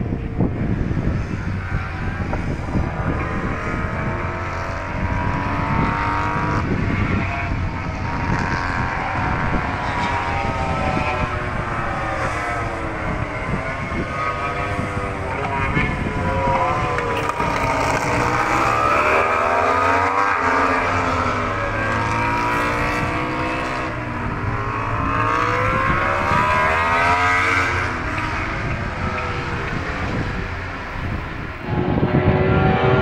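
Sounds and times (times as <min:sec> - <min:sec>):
racing motorcycle engines: 0:00.0 - 0:33.0
wind rumble on microphone: 0:00.0 - 0:33.0.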